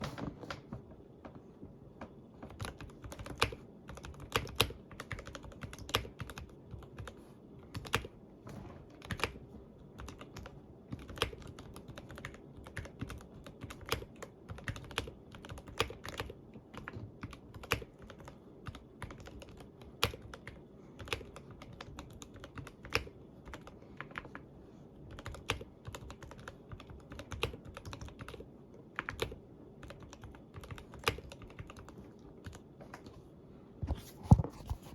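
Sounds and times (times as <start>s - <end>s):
keyboard typing: 2.4s - 33.1s.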